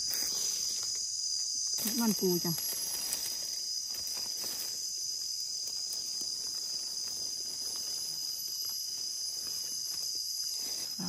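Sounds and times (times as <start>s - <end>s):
dry leaves rustling: 0.0s - 11.0s
high-pitched insect chorus: 0.0s - 11.0s.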